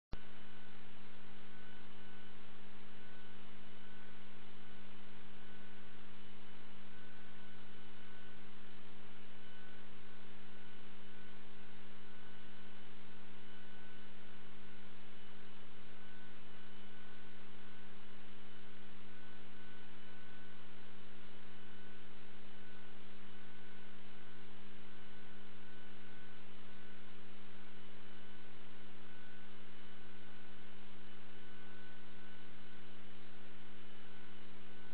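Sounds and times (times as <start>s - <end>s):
electrical mains hum: 0.1s - 34.9s
faint high whine: 0.1s - 34.9s.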